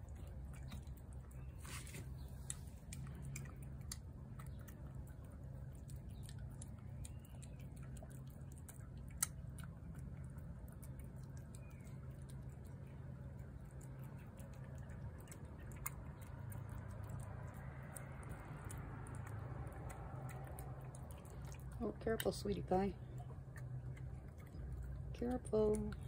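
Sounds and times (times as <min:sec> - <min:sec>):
clicks of teeth and tongue: 0:00.0 - 0:22.4, 0:23.0 - 0:26.0
cat chewing wet food: 0:00.0 - 0:26.0
steady low hum: 0:00.0 - 0:26.0.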